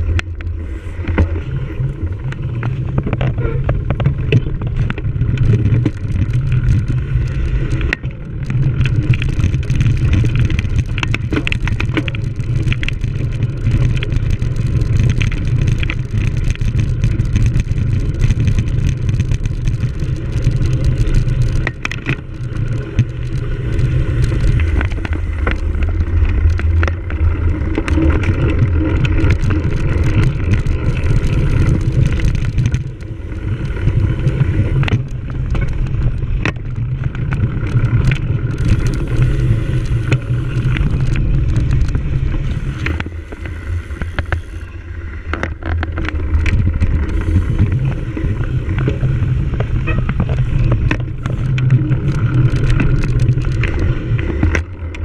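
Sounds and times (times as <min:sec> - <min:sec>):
bike rattling over rough ground: 0:00.0 - 0:55.0.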